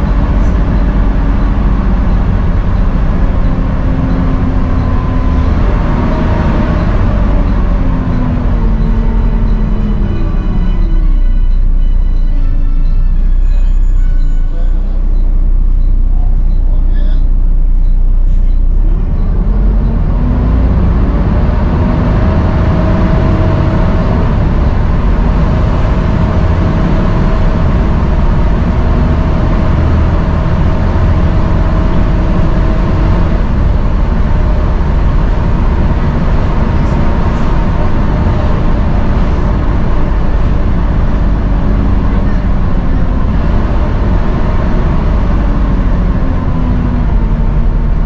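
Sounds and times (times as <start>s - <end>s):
bus diesel engine rumble: 0.0s - 48.0s.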